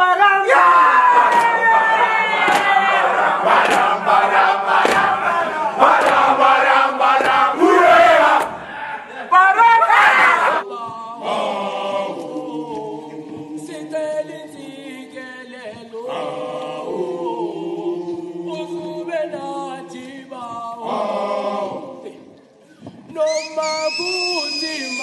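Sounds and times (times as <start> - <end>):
group singing a cappella: 0.0 - 9.4, 10.3 - 25.0.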